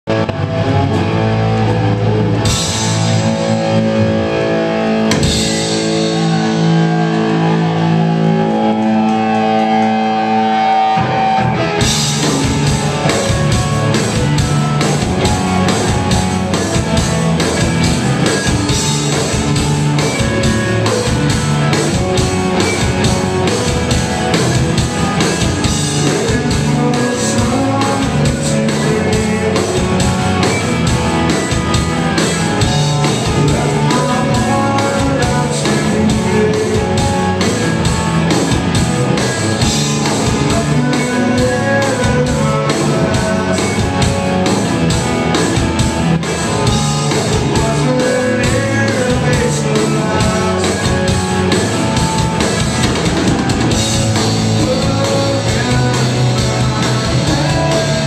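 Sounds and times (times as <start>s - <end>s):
rock band playing: 0.0s - 58.0s
electric guitar chords: 0.1s - 58.0s.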